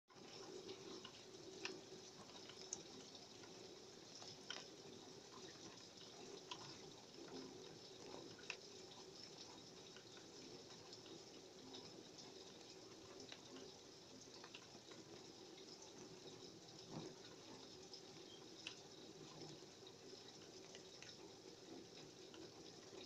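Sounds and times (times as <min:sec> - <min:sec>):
drips ticking: 0:00.1 - 0:23.0
faint steady rain: 0:00.1 - 0:23.0.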